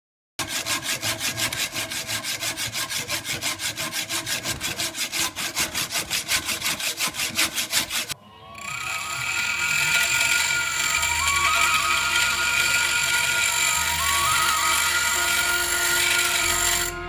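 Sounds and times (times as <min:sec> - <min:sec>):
hacksaw cutting steel rod: 0:00.4 - 0:17.0.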